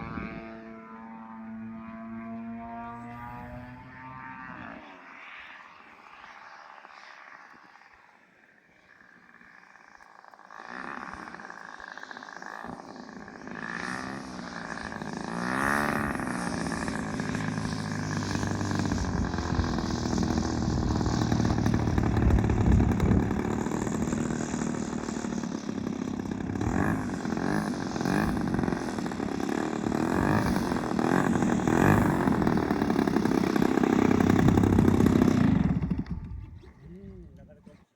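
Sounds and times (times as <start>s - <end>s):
propeller airplane engine: 0.0s - 37.6s.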